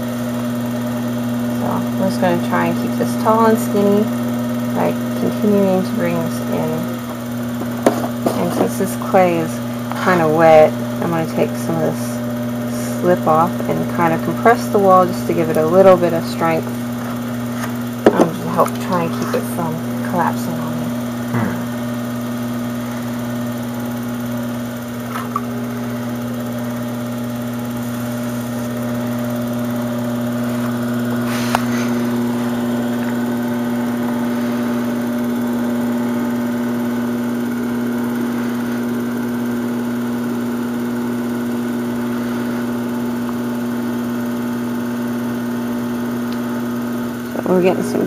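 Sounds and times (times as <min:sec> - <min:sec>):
pottery wheel motor humming: 0:00.0 - 0:48.0.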